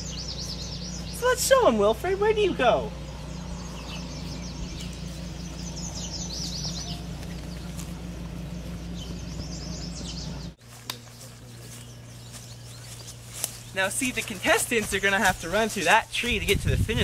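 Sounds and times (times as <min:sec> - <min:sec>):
low outdoor background hum: 0:00.0 - 0:17.0
small songbirds chirping: 0:00.0 - 0:17.0.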